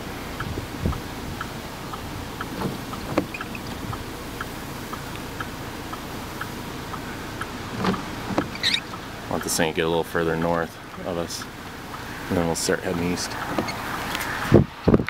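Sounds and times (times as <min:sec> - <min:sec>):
car interior rumble: 0:00.0 - 0:15.0
indicator ticking: 0:00.3 - 0:13.8.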